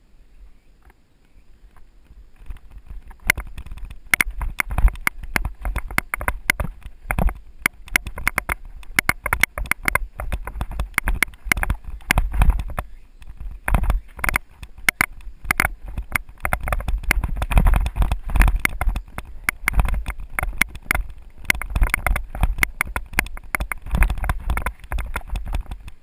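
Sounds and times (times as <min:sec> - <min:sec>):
mountain bike rattling: 0:01.7 - 0:26.0.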